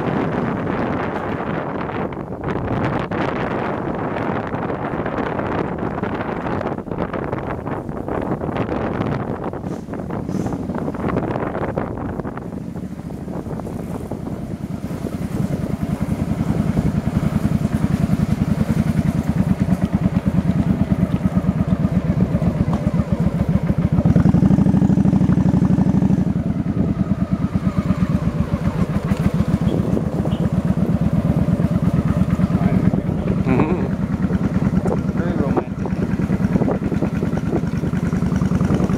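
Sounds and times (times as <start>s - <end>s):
motorbike engine running: 0.0s - 38.9s
wind buffeting microphone: 0.0s - 38.9s.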